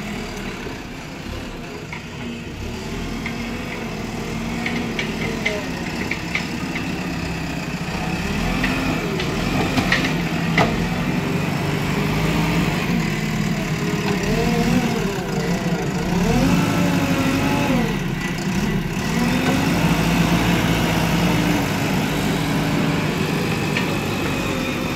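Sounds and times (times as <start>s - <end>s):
backhoe diesel engine under load: 0.0s - 24.9s.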